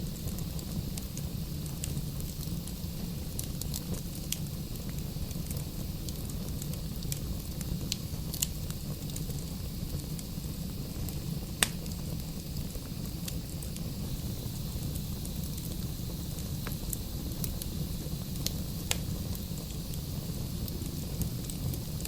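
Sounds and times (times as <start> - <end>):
burning logs crackling and popping: 0.0 - 22.0
fire flames rumbling: 0.0 - 22.0.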